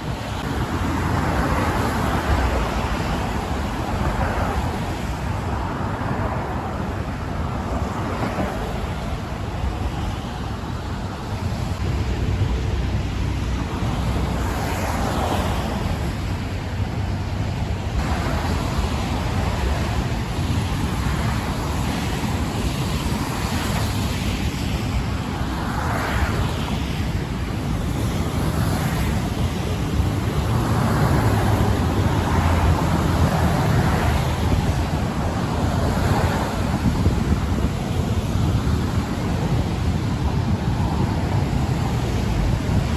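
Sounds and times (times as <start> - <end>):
traffic hissing on wet road: 0.0 - 42.9
wind rumbling on microphone: 0.0 - 42.9.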